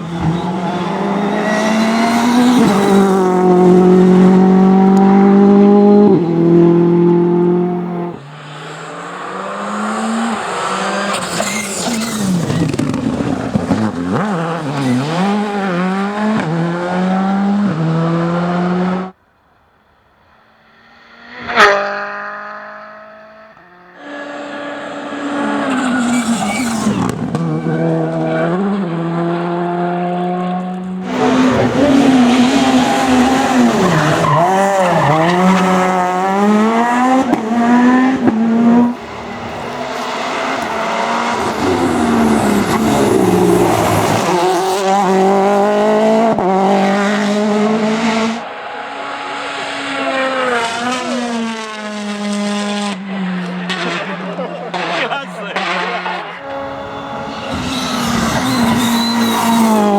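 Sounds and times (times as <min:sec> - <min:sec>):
car passing fast: 0:00.0 - 0:19.2, 0:19.8 - 0:59.9
rally car engines revving: 0:00.0 - 0:19.2, 0:20.2 - 0:59.9.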